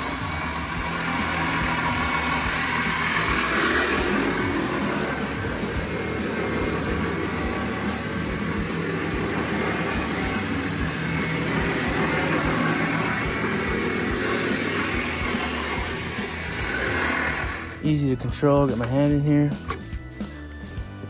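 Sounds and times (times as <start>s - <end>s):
electric winch running: 0.0s - 21.0s.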